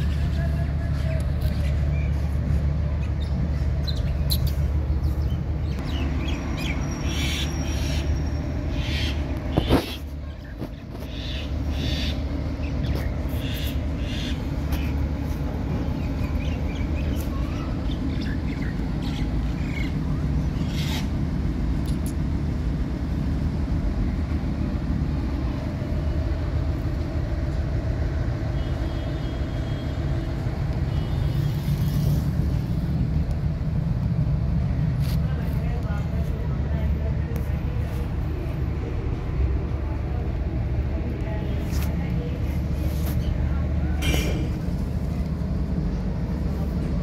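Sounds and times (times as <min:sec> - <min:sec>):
low traffic rumble: 0:00.0 - 0:47.0.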